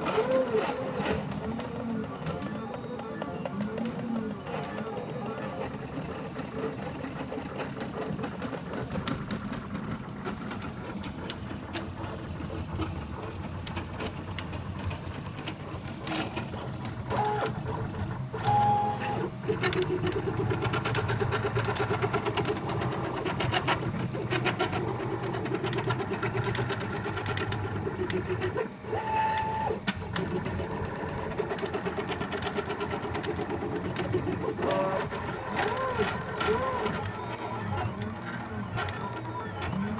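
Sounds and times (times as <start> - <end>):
stepper motors whirring: 0.0 - 39.9.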